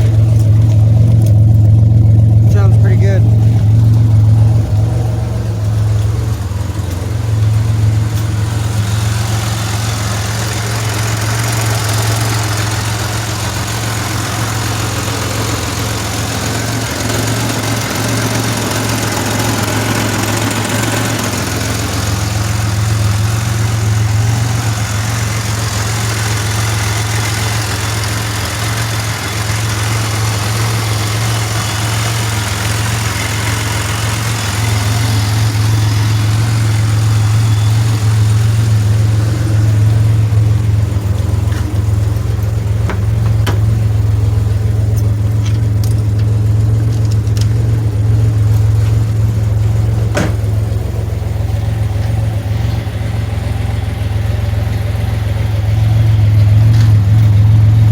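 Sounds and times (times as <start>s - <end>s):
car engine idling: 0.0s - 57.9s.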